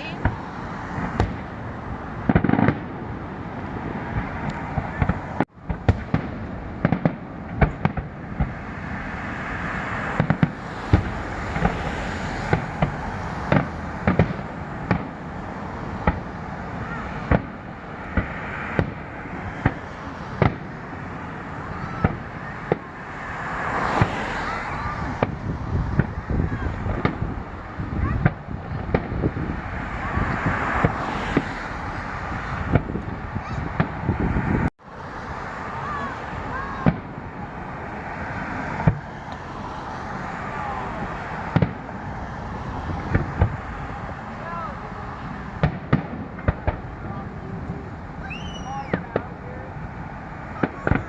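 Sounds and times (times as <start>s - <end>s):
fireworks crackling: 0.0s - 34.3s, 34.9s - 51.0s
fireworks bangs: 0.0s - 34.7s, 35.6s - 51.0s.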